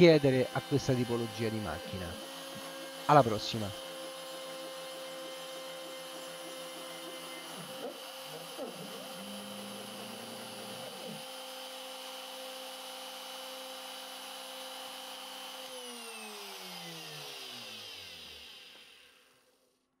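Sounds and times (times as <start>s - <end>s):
router spindle whining: 0.0s - 19.7s.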